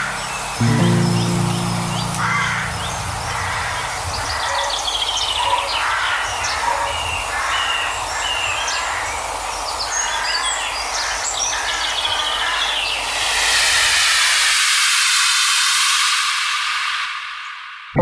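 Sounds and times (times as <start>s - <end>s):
outdoor ambience hiss: 0.0s - 18.0s.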